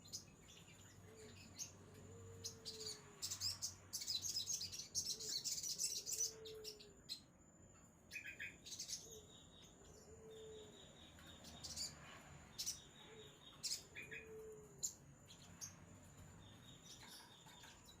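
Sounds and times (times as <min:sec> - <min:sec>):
sunbird chirping: 0:00.0 - 0:18.0.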